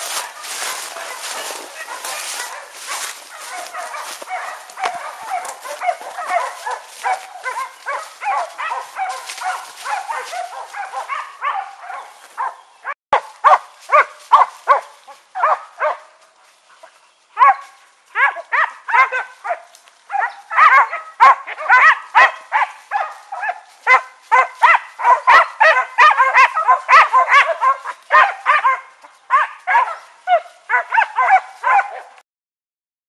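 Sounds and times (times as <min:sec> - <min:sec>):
brush rustling: 0:00.0 - 0:32.1
dogs baying and barking: 0:00.0 - 0:32.2.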